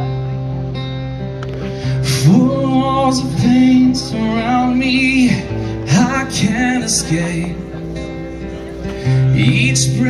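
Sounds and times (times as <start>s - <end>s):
acoustic guitar: 0.0s - 10.0s.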